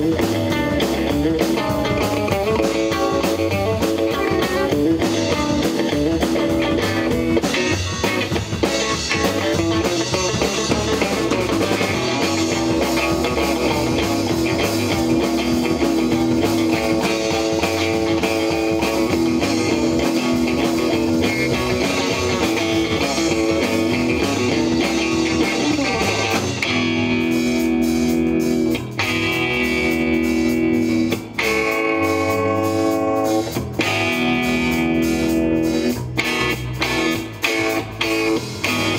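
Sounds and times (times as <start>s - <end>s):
electric guitar chords: 0.0s - 38.9s
rock band playing live: 0.0s - 38.9s.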